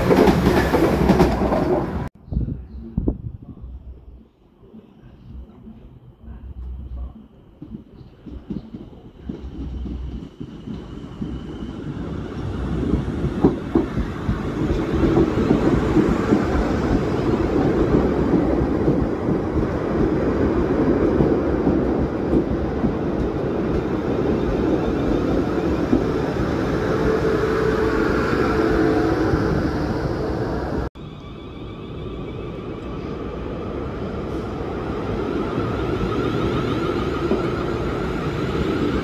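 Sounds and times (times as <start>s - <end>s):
train wheels rumbling on rails: 0.0s - 2.1s, 5.0s - 30.9s, 31.7s - 39.0s
train hum: 0.0s - 39.0s.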